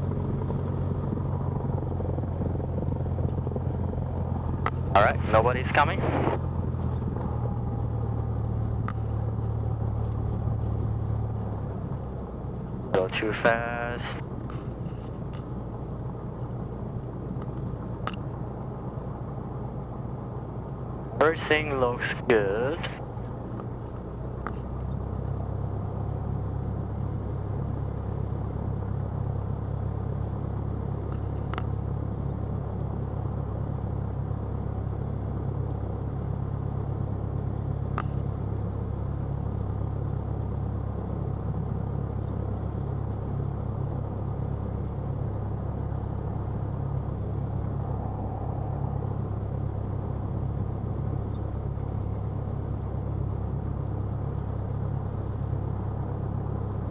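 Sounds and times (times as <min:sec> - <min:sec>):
aircraft piston engine running: 0:00.0 - 0:56.9.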